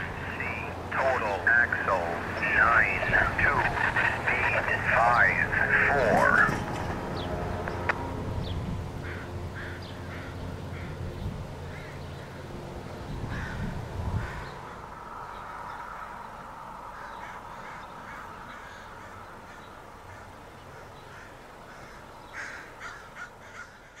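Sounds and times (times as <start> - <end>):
birds calling: 0.0 - 24.0
low rumble of passenger train: 0.0 - 24.0.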